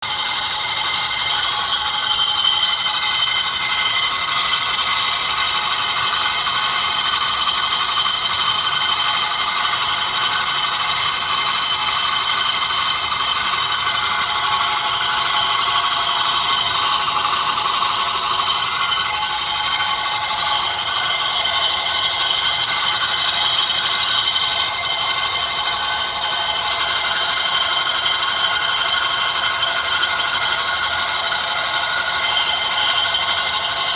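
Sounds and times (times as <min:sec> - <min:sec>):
high-pitched mechanical whine: 0:00.0 - 0:33.9.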